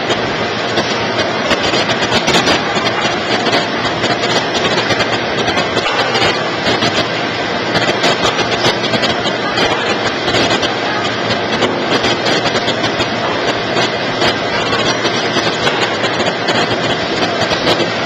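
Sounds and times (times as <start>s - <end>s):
vegetable cutting machine running: 0.0s - 18.0s.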